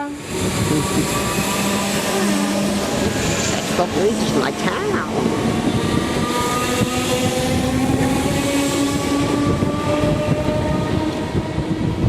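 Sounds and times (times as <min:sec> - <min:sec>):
train whine: 0:00.0 - 0:12.0
wind buffeting microphone: 0:00.0 - 0:12.0.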